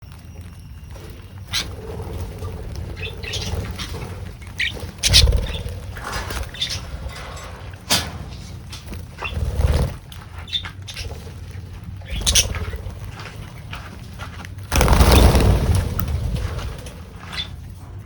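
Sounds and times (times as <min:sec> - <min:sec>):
rustling noise with low rumble: 0:00.0 - 0:18.0
small birds chirping: 0:00.0 - 0:18.0.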